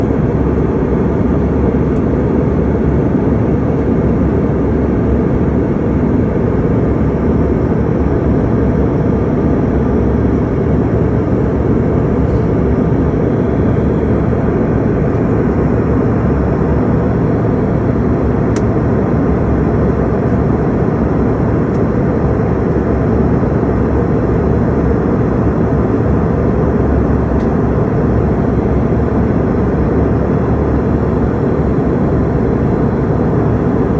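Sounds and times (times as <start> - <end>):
jet aircraft roar: 0.0 - 33.9.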